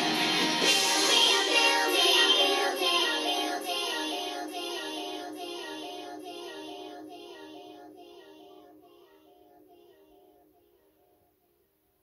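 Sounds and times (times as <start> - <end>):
children's cartoon song: 0.0 - 11.1.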